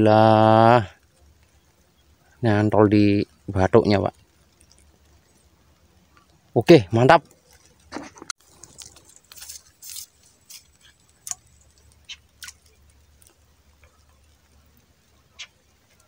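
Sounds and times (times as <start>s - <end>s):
raindrops ticking: 0.0s - 16.0s.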